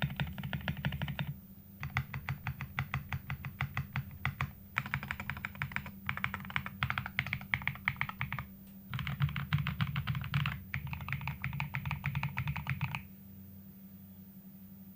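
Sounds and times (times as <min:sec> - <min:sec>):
fast typing on mechanical keyboard: 0:00.0 - 0:13.1.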